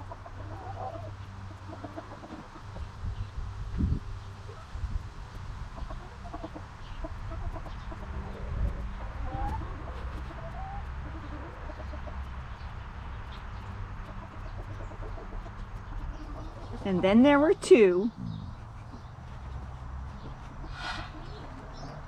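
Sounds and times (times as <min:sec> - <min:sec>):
chickens clucking: 0:00.0 - 0:03.0, 0:05.4 - 0:22.0
steady low rumble: 0:00.0 - 0:22.0.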